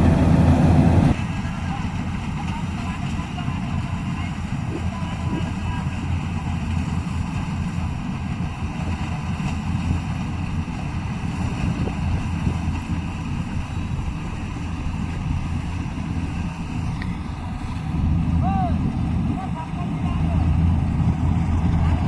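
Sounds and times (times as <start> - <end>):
combine harvester engine rumble: 0.0 - 22.0.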